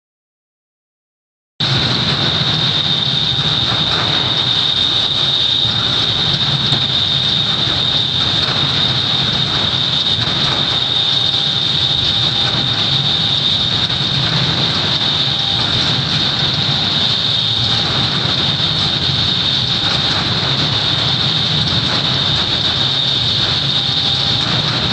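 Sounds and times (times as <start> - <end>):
high-pitched whine: 1.6 - 24.9
mechanical rumble: 1.6 - 24.9.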